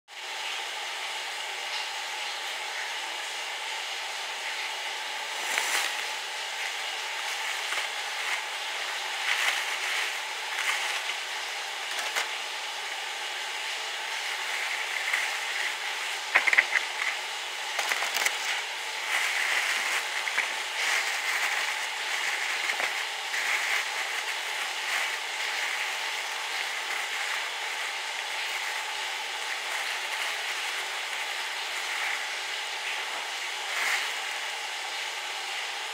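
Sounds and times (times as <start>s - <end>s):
steady background hiss: 1.2s - 35.9s
plastic bag crinkling: 5.2s - 35.1s.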